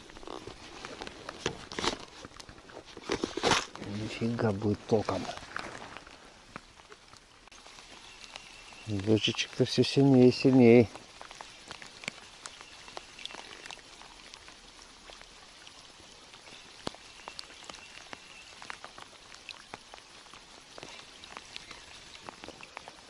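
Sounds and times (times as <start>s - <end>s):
rain falling on river: 0.0s - 23.0s
raindrops ticking close by: 0.0s - 23.0s.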